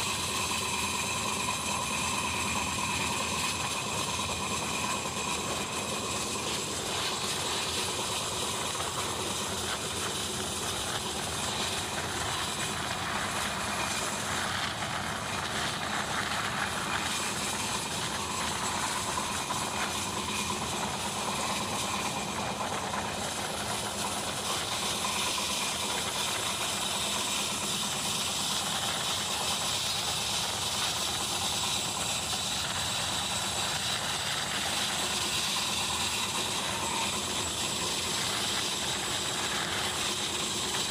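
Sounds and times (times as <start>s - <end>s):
train wheels rolling on rails: 0.0s - 40.9s.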